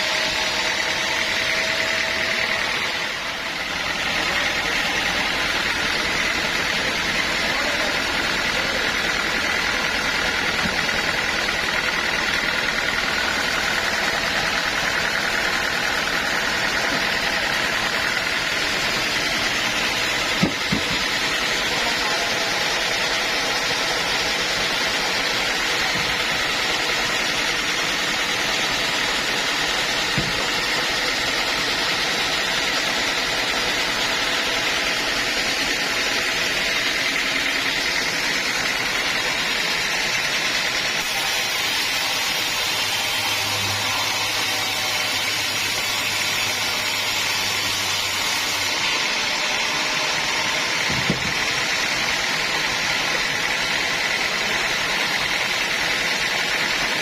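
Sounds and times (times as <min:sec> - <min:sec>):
sawmill saw whining: 0:00.0 - 0:57.0.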